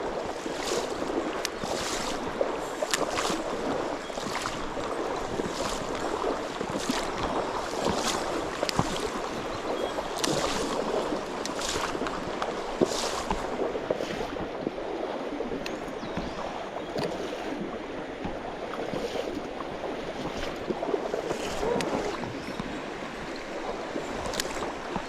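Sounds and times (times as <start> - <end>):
stream water rushing: 0.0 - 25.0
water splashes: 0.0 - 25.0.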